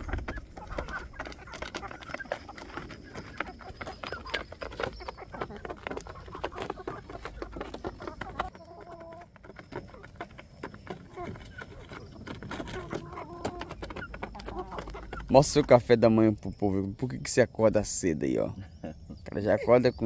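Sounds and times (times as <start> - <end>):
chickens clucking softly: 0.0 - 17.0.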